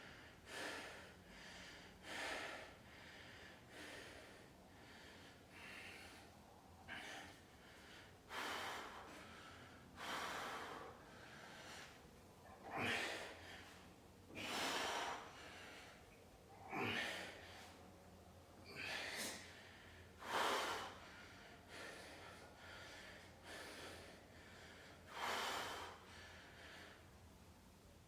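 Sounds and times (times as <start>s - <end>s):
person breathing hard: 0.0s - 18.0s, 18.6s - 27.2s.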